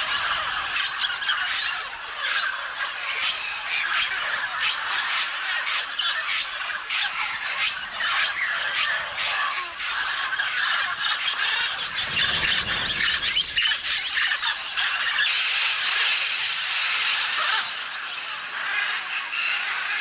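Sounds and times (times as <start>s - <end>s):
parrots screeching and squawking: 0.0s - 20.0s.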